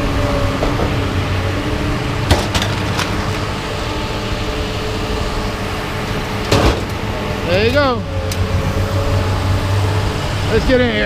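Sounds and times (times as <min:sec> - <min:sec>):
machine engine humming: 0:00.0 - 0:11.0.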